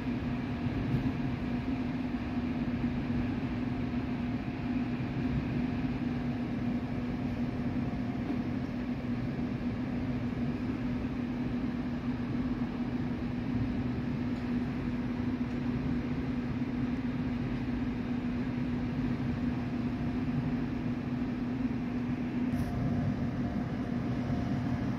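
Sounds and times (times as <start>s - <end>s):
constant low hum: 0.0s - 24.9s.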